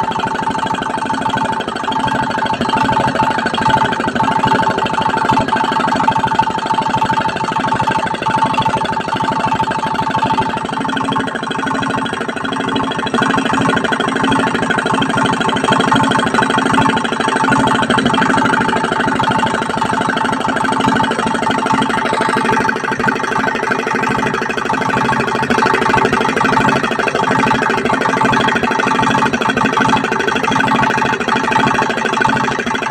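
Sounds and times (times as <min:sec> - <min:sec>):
diesel engine chugging: 0:00.0 - 0:32.9
steady ringing tone: 0:00.0 - 0:32.9.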